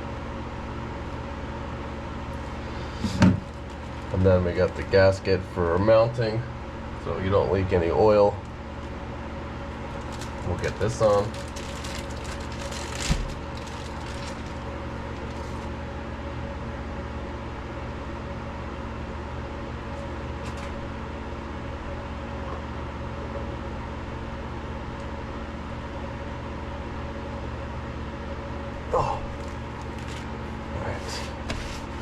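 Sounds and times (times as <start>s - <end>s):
low machinery hum: 0.0s - 32.0s.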